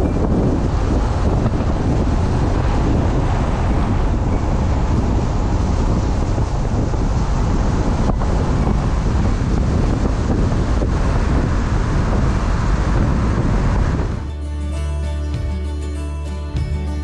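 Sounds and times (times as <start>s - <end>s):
wind buffeting microphone: 0.0s - 14.4s
vehicle road noise: 0.0s - 17.0s.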